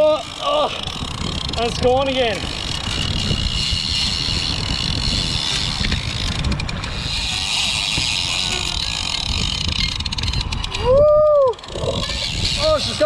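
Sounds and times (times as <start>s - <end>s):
fishing reel drag buzzing: 0.0s - 13.0s
wind on microphone: 0.0s - 13.0s.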